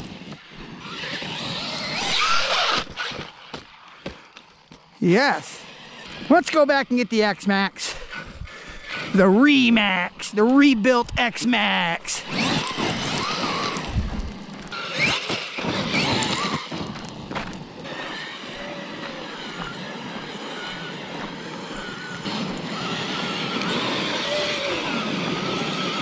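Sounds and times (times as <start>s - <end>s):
tyres crunching on gravel: 0.0s - 24.3s
toy truck electric motor whining: 0.0s - 26.0s.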